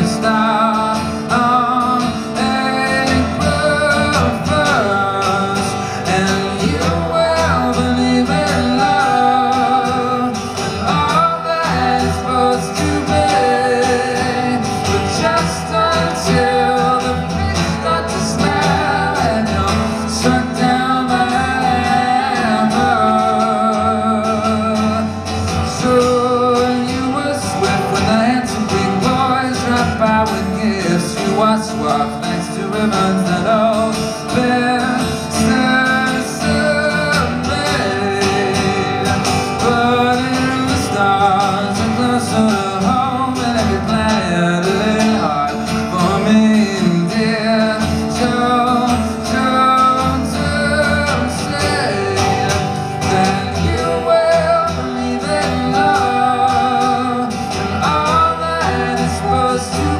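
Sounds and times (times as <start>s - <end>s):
acoustic guitar: 0.0s - 59.9s
man singing with vibrato: 0.0s - 59.9s.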